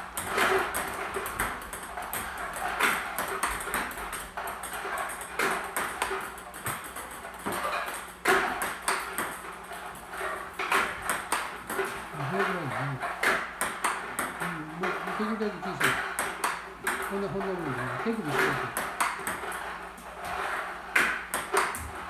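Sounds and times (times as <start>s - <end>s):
ping-pong ball hitting paddle: 0.0s - 19.8s, 20.9s - 22.0s
ping-pong ball bouncing on table: 0.2s - 9.4s, 10.6s - 19.6s, 20.9s - 22.0s.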